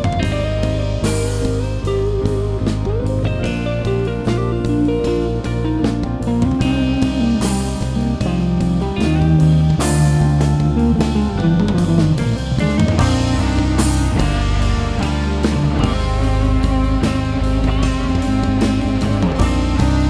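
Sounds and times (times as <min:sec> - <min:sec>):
bass line: 0:00.0 - 0:20.0
drum kit: 0:00.0 - 0:20.0
guitar melody: 0:00.0 - 0:20.0.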